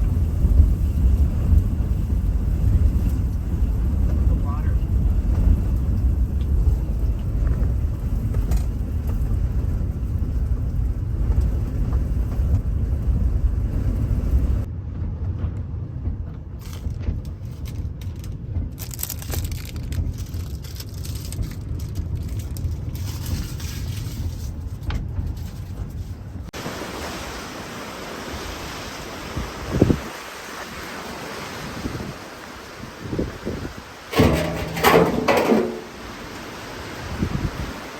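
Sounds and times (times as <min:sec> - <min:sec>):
wind rumbling on microphone: 0:00.0 - 0:26.6, 0:28.3 - 0:37.9
sandstorm crackles and rattles: 0:00.0 - 0:26.9, 0:29.0 - 0:37.9
gusty wind: 0:00.0 - 0:37.9.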